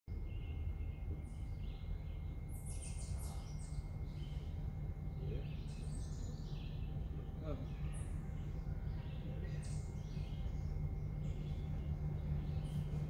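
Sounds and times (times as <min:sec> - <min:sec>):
songbirds chirping: 0:00.1 - 0:13.0
steady low rumble: 0:00.1 - 0:13.0.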